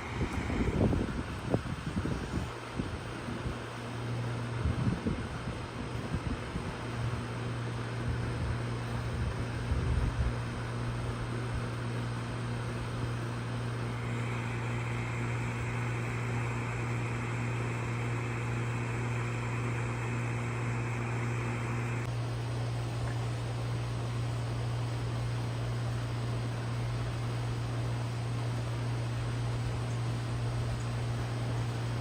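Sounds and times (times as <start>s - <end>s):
heat pump humming: 0.0s - 32.0s.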